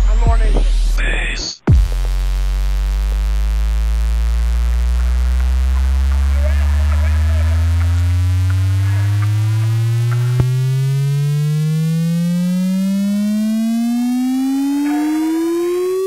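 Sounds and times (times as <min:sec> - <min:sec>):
rising electronic tone: 0:01.7 - 0:16.0.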